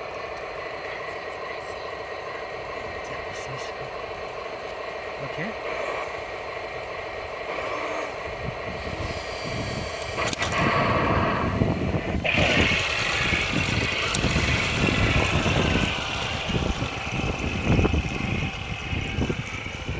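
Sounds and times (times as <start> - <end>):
toy tank engine sound: 0.0 - 19.9.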